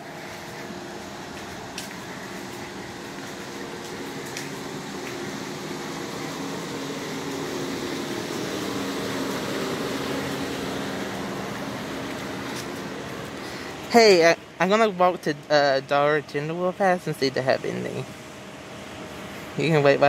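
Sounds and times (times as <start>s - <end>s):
air-conditioning fan blowing: 0.0s - 20.0s.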